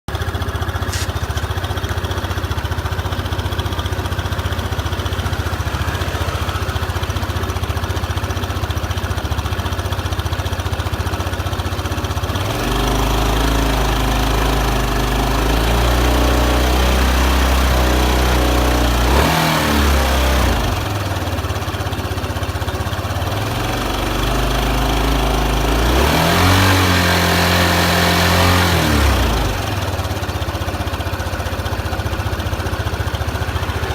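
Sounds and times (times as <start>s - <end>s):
engine idling and revving: 0.1s - 33.9s.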